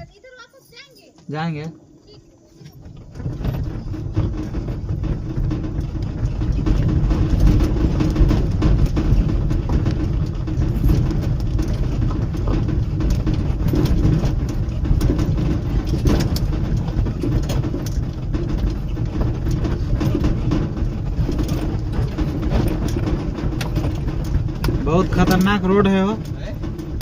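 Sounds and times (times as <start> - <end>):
rattles and knocks: 2.1 - 27.0
auto-rickshaw engine running: 2.7 - 27.0.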